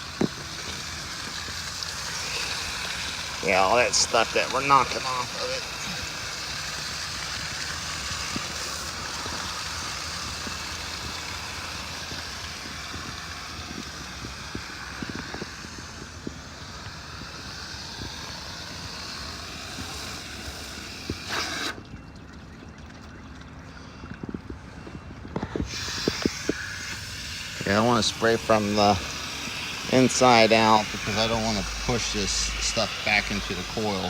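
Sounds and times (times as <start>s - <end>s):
hose spraying water: 0.0s - 22.0s, 24.1s - 34.0s.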